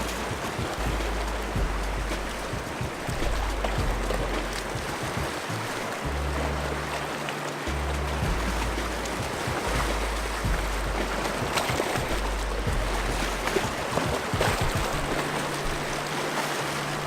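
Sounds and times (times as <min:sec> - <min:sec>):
wind buffeting microphone: 0:00.0 - 0:16.2
water rushing at shore: 0:00.0 - 0:17.0.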